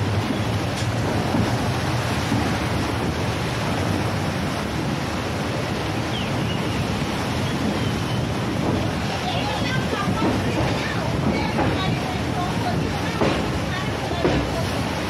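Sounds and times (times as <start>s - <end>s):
sea water splashing: 0.0s - 15.0s
wind buffeting microphone: 0.0s - 15.0s.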